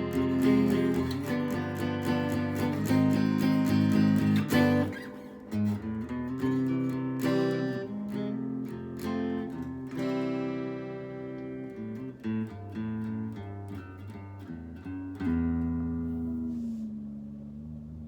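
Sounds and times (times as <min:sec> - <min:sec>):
clean electric guitar: 0:00.0 - 0:18.0.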